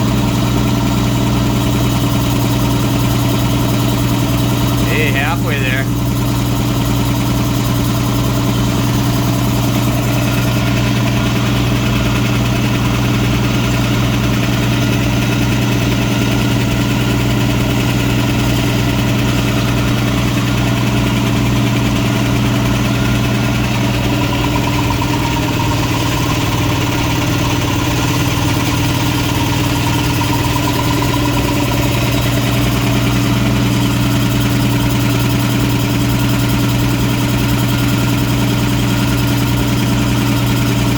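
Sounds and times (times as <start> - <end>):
air compressor pump humming: 0.0 - 40.9.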